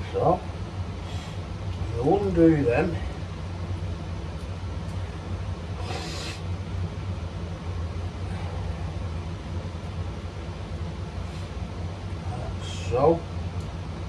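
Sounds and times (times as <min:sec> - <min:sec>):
low workshop hum: 0:00.0 - 0:14.0.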